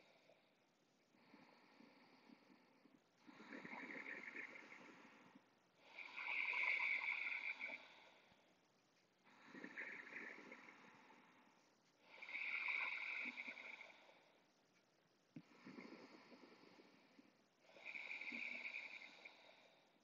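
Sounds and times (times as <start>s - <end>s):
slow deep breathing: 0.0s - 20.0s.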